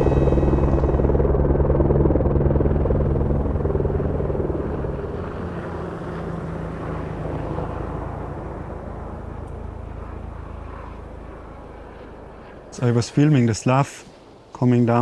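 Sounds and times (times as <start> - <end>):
helicopter engine drone: 0.0 - 15.0
helicopter rotor chop: 0.0 - 15.0.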